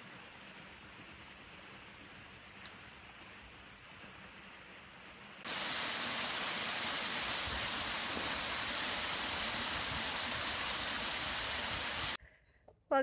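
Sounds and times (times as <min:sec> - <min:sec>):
faint hiss: 0:00.0 - 0:12.2
running water rushing: 0:00.0 - 0:12.2.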